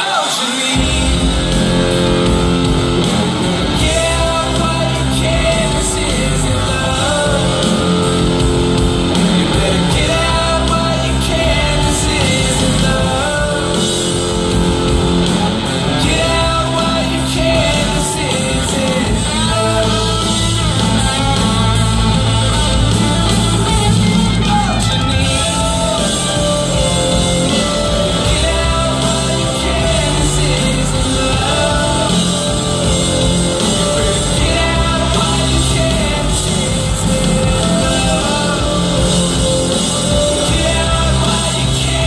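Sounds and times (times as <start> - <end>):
loud rock song: 0.0 - 42.0
person singing: 0.0 - 42.0.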